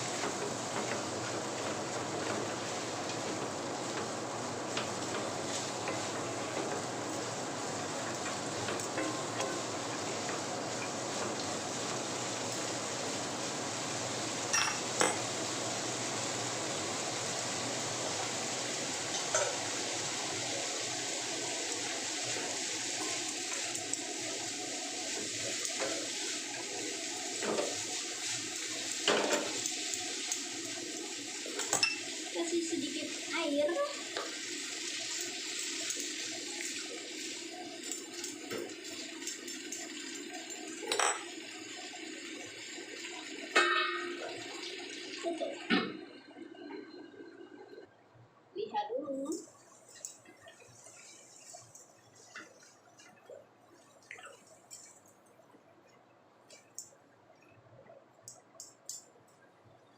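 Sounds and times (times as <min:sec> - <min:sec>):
food sizzling in a pan: 0:00.0 - 0:47.9, 0:48.6 - 0:57.0.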